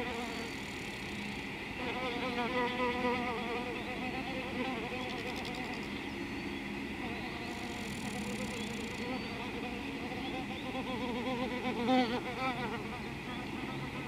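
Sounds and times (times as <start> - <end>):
flying insect buzzing: 0.0 - 6.0, 7.0 - 14.0
steady high hiss: 0.0 - 14.0.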